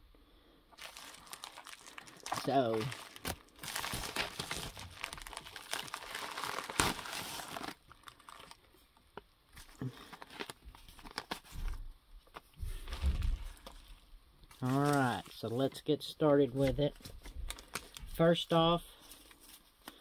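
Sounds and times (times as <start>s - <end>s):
plastic envelope crinkling: 0.7s - 15.8s, 16.5s - 20.0s
paper packets rustling: 0.7s - 20.0s.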